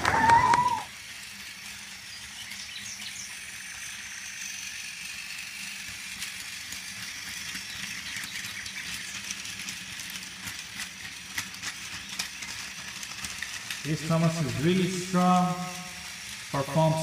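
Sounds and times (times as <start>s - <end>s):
toy cars rattling on track: 0.0s - 17.0s
toy train motor whirring: 0.0s - 17.0s.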